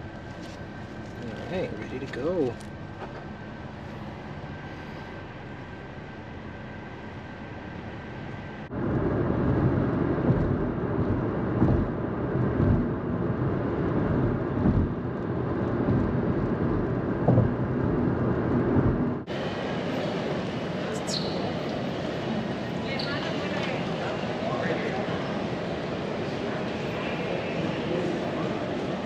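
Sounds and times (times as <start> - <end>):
car road rumble: 0.0 - 28.9.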